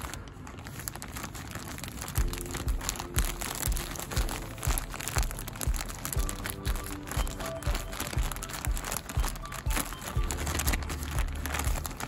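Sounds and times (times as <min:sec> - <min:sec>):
plastic bag crinkling: 0:00.0 - 0:12.0
background music with steady beat: 0:02.1 - 0:12.0.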